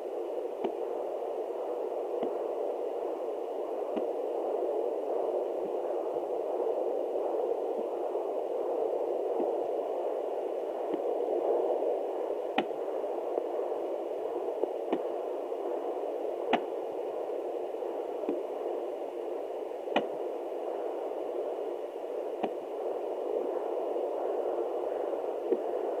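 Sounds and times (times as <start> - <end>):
doppler static hiss: 0.0 - 26.0.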